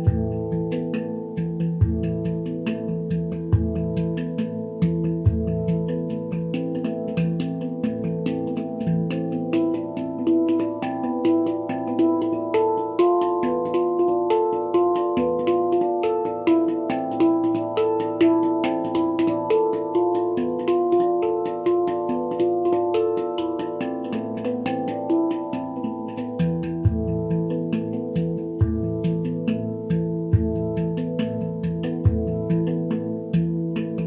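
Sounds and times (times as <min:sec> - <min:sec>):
handpan played with fingers: 0:00.0 - 0:34.0.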